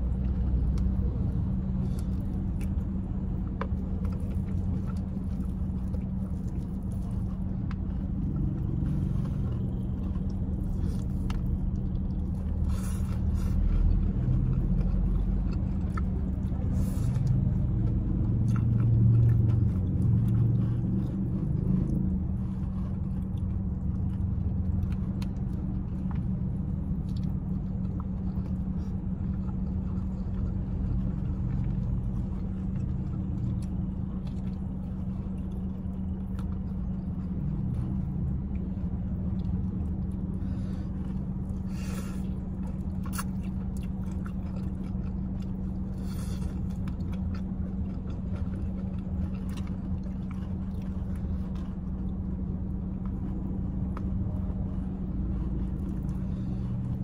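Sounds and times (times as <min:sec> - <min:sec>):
chewing crispy food: 0:00.0 - 0:57.0.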